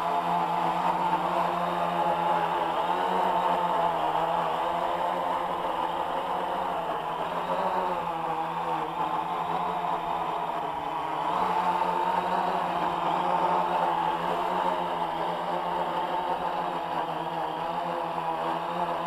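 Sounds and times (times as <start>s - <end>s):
drone propellers buzzing hum: 0.0s - 19.0s.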